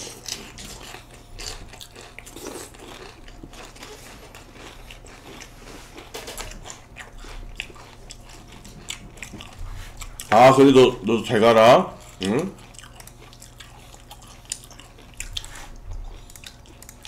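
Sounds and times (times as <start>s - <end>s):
people chewing crunchy cereal: 0.0s - 17.0s.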